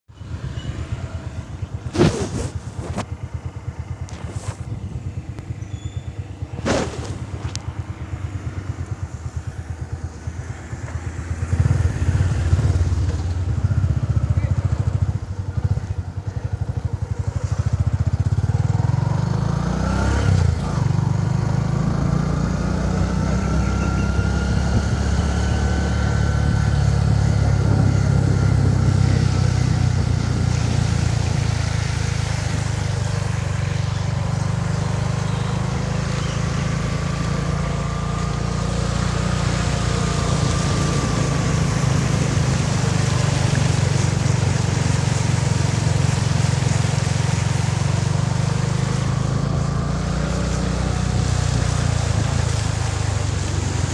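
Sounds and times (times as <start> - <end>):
motorcycle engine running: 0.1 - 53.9.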